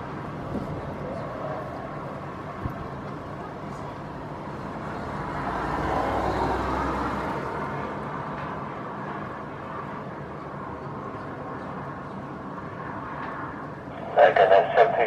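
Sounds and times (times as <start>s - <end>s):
distant airliner engines roaring: 0.0s - 15.0s.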